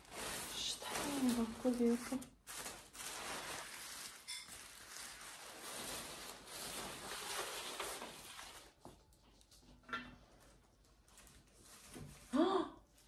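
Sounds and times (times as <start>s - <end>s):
tissue paper rustling: 0.0s - 9.6s, 10.8s - 13.0s.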